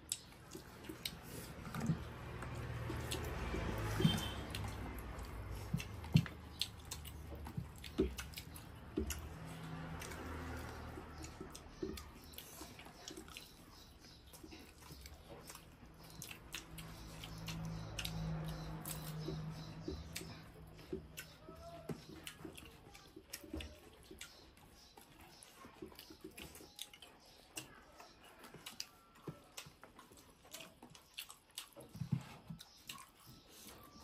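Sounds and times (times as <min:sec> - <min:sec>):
chewing and mouth smacks: 0:00.0 - 0:34.0.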